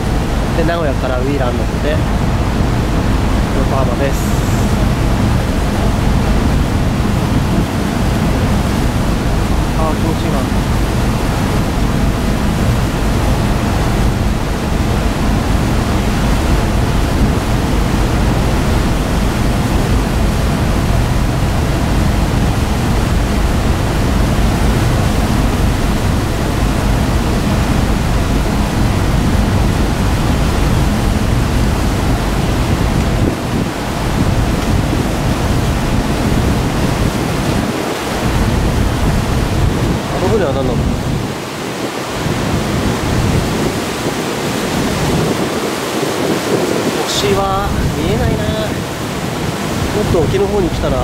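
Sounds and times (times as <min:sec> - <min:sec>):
water rushing along hull: 0:00.0 - 0:51.0
wind buffeting microphone: 0:00.0 - 0:51.0.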